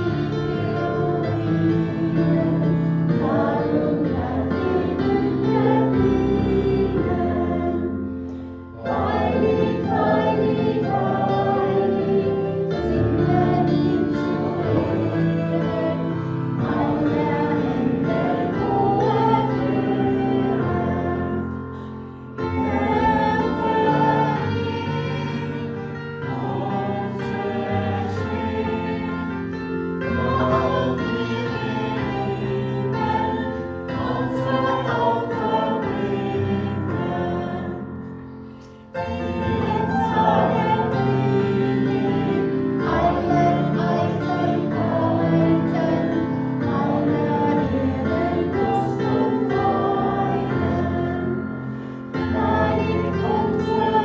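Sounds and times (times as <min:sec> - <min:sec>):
group singing a hymn: 0:00.0 - 0:54.0.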